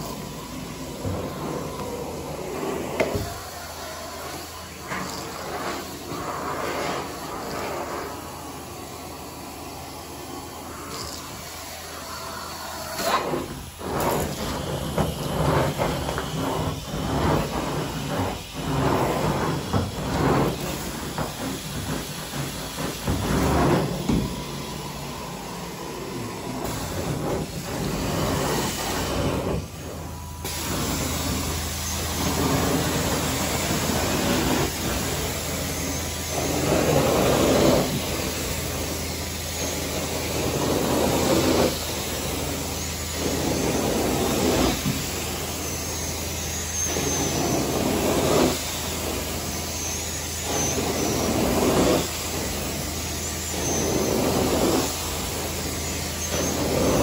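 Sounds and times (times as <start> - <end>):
carpet cleaning machine suction: 0.0 - 57.0.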